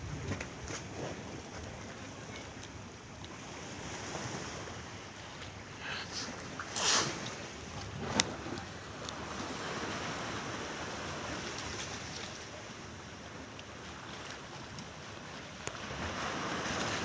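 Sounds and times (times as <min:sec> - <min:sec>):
waves washing against a boat: 0:00.0 - 0:17.0.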